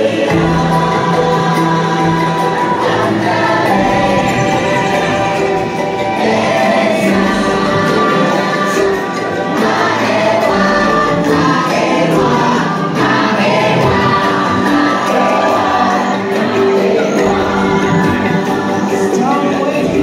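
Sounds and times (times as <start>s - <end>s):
choir singing held notes: 0.0s - 20.0s
instrumental accompaniment: 0.0s - 20.0s.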